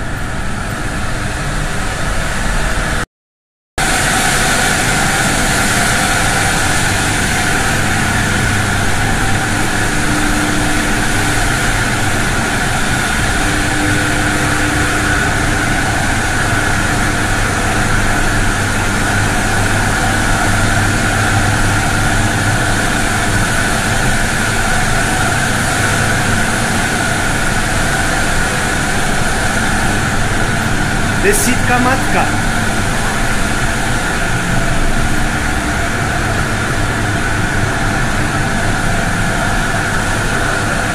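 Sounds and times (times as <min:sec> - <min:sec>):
machinery drone: 0:00.0 - 0:03.0, 0:03.8 - 0:40.9.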